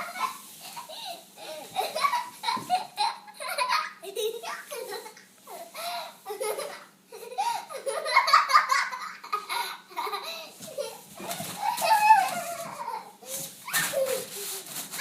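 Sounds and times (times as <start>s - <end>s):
young child laughing: 0.0s - 15.0s.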